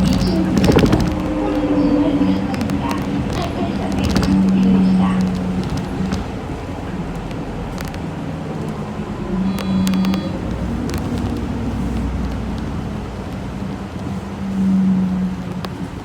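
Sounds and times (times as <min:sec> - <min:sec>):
bus engine hum: 0:00.0 - 0:16.0
road noise: 0:00.0 - 0:16.0.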